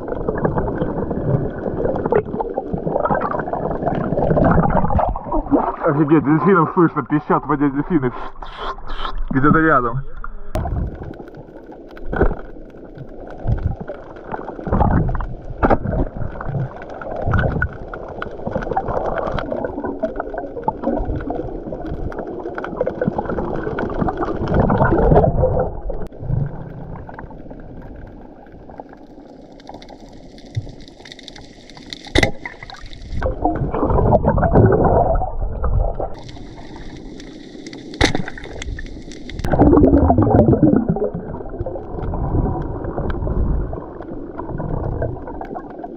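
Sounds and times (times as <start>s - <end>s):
water gurgling and bubbling: 0.0s - 45.9s.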